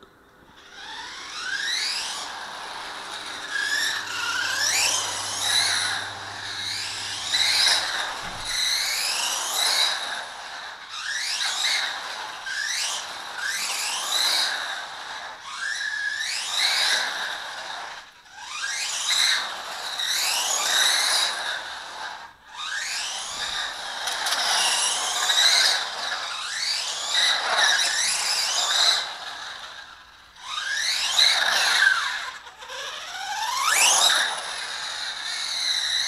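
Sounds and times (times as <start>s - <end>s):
electric motor whining: 0.0s - 36.0s.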